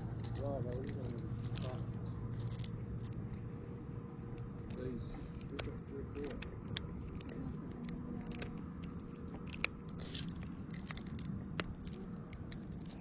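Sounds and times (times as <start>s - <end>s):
clicks and crinkly scrapes: 0.0s - 13.0s
steady low rumble: 0.0s - 13.0s.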